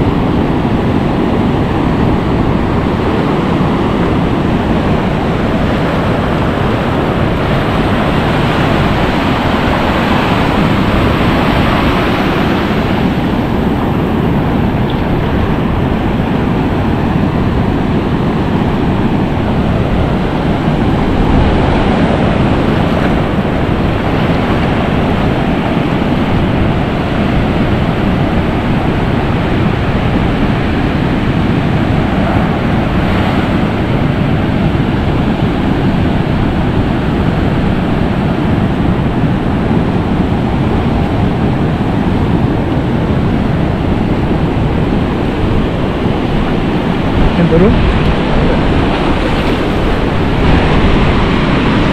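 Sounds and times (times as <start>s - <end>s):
sea surf washing: 0.0s - 51.9s
wind on microphone: 0.0s - 51.9s.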